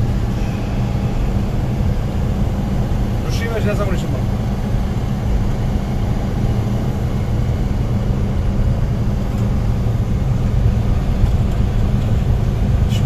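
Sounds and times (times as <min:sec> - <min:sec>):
engine droning under way: 0:00.0 - 0:13.0
road noise: 0:00.0 - 0:13.0.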